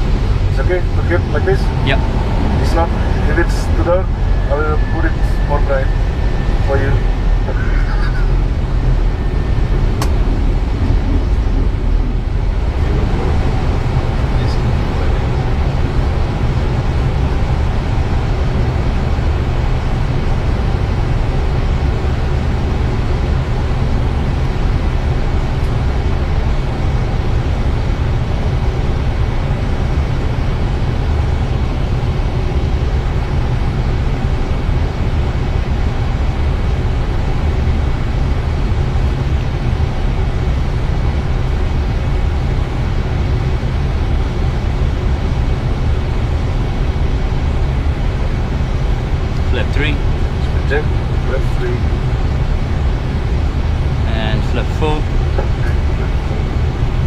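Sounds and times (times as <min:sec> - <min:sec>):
cockpit airflow and engine rumble: 0:00.0 - 0:57.0
faint steady hums: 0:00.0 - 0:57.0.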